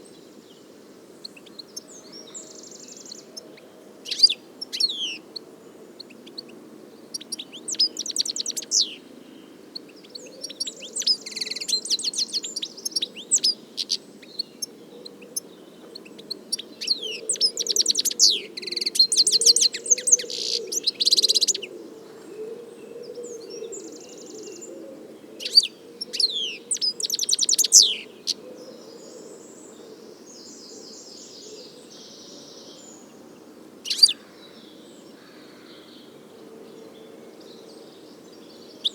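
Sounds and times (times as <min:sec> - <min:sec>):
bird twittering song: 0:01.2 - 0:05.4, 0:06.0 - 0:21.7, 0:25.4 - 0:36.1, 0:36.7 - 0:38.9.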